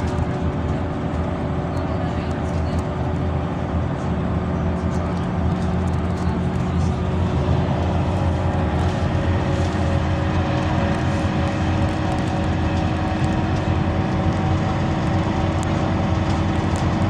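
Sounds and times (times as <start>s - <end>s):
bus engine and drivetrain hum: 0.0s - 17.0s
road and tyre noise: 0.0s - 17.0s.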